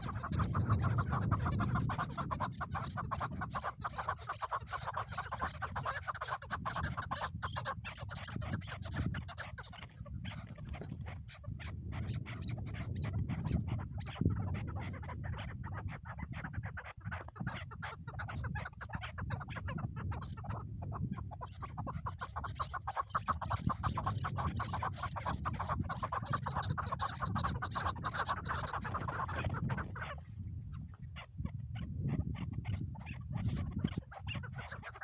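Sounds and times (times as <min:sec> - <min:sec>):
partridge clucking calls: 0:00.0 - 0:35.0.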